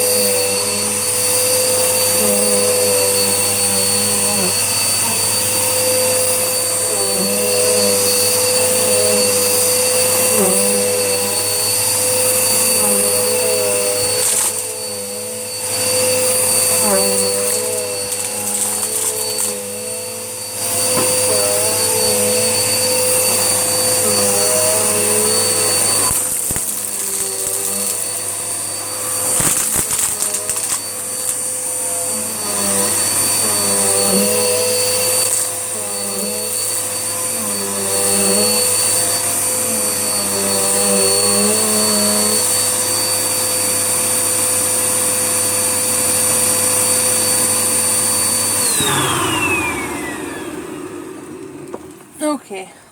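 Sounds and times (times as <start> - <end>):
vacuum cleaner whining: 0.0 - 52.9.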